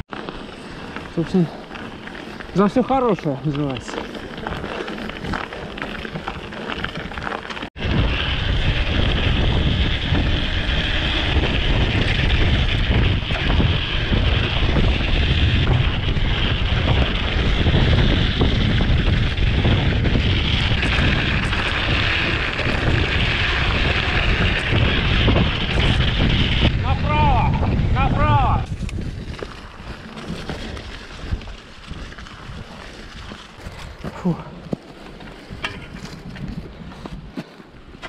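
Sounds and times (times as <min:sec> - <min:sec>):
wind buffeting microphone: 0:00.9 - 0:38.0.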